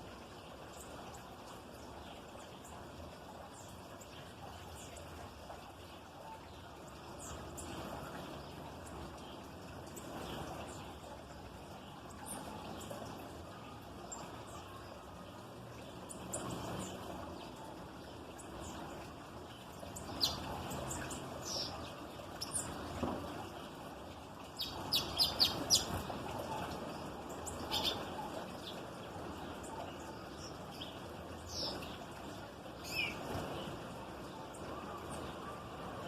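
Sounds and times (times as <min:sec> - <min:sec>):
small songbirds chirping: 0:00.0 - 0:36.0
steady background hiss: 0:00.0 - 0:36.0.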